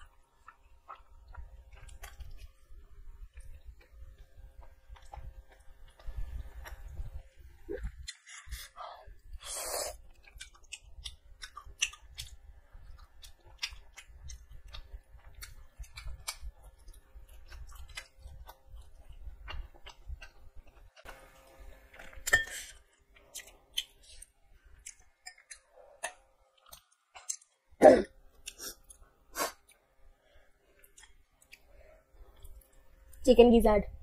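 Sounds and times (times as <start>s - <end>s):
wet chewing and mouth smacking: 0.0s - 21.2s, 23.0s - 27.7s, 28.3s - 33.2s.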